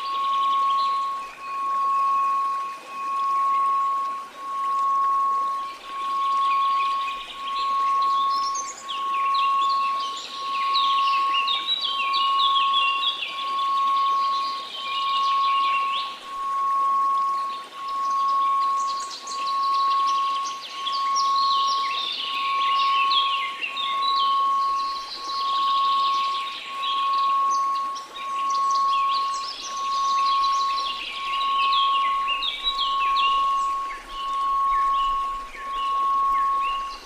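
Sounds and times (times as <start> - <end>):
birds chirping: 0.0 - 37.0
faint white noise: 0.0 - 37.0
sine tone: 0.0 - 37.0.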